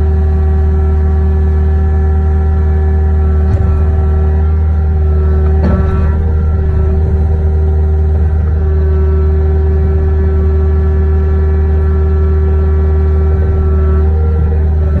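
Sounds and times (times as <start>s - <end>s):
excavator diesel engine drone: 0.0s - 15.0s
steady whining tone: 0.0s - 15.0s.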